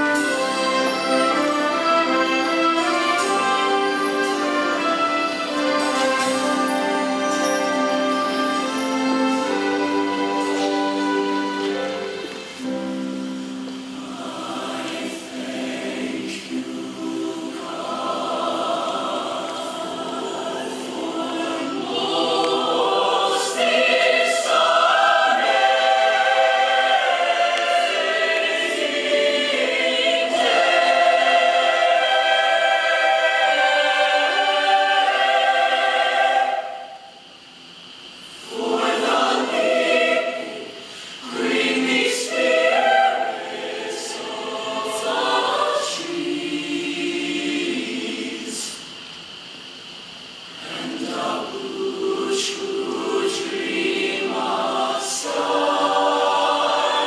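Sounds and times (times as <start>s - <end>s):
choir singing chords: 0.0s - 57.0s.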